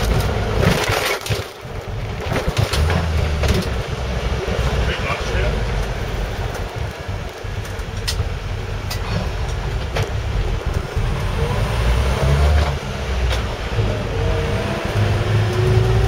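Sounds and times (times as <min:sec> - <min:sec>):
engine and gearbox rumble: 0:00.0 - 0:16.0.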